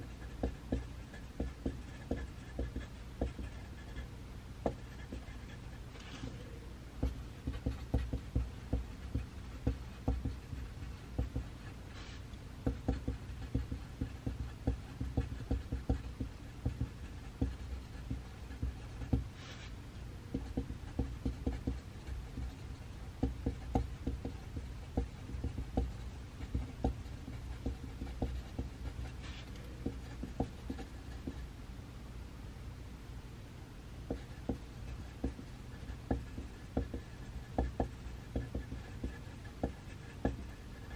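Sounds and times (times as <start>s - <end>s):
pencil writing on paper: 0.0s - 31.5s, 34.0s - 40.9s
low room hum: 0.0s - 40.9s.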